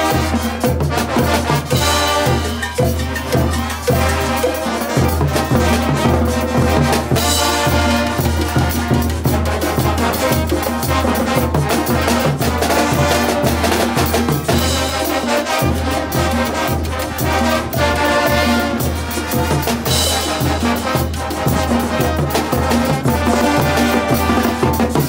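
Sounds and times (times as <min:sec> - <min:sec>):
cymbals and snare drums: 0:00.0 - 0:25.0
trumpets and trombones: 0:00.0 - 0:25.0.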